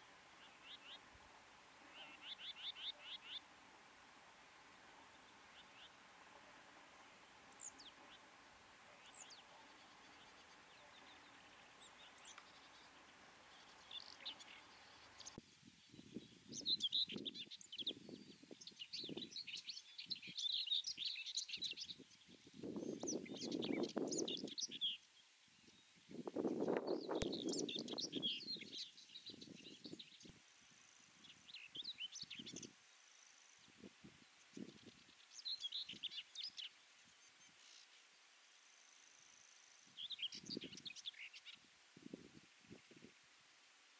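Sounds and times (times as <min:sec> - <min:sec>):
bird warbling song: 0:00.0 - 0:38.1, 0:38.8 - 0:41.6
steady hiss: 0:00.0 - 0:43.9.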